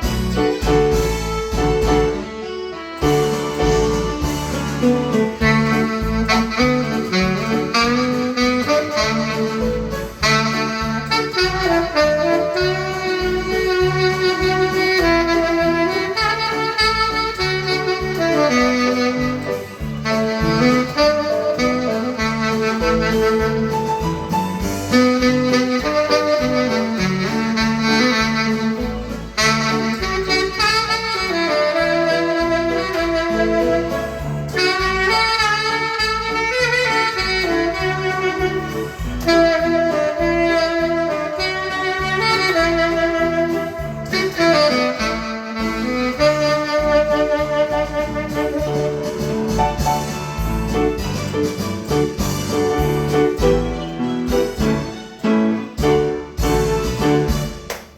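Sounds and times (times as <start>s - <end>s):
bass line: 0.0s - 57.7s
tenor saxophone melody: 0.0s - 57.7s
keyboard accompaniment: 0.0s - 57.9s.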